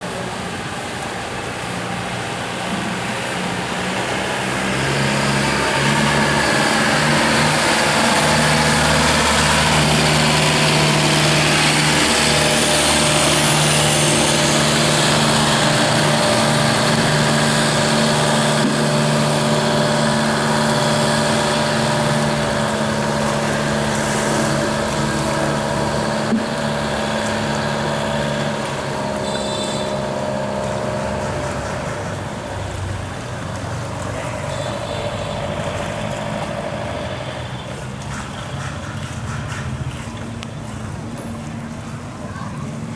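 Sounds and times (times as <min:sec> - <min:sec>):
boat engine running: 0:00.0 - 0:42.9.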